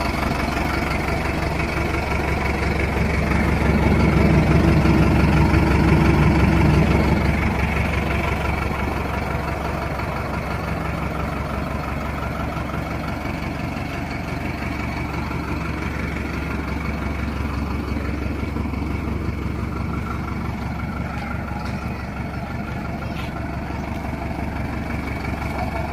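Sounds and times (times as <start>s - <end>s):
diesel truck engine idling: 0.0s - 25.9s.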